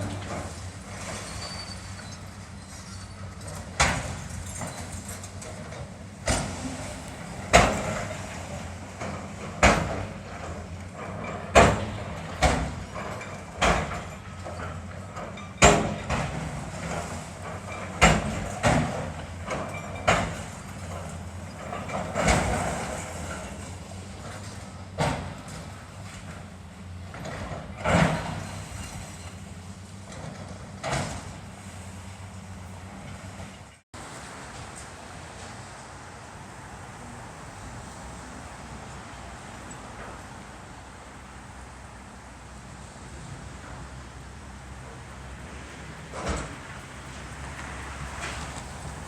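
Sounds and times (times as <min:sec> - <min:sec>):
heavy machine engine: 0:00.0 - 0:49.0.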